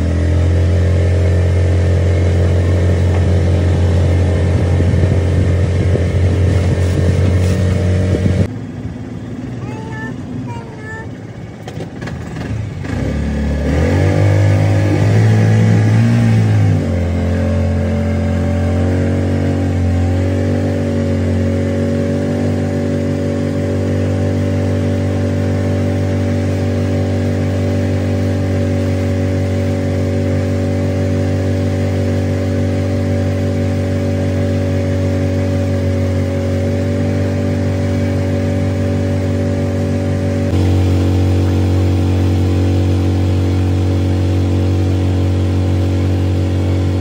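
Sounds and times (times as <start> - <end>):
motorboat engine running: 0.0 - 47.0.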